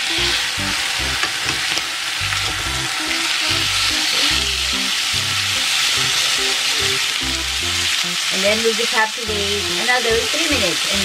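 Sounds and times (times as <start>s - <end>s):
steaks sizzling in a pan: 0.0s - 11.0s.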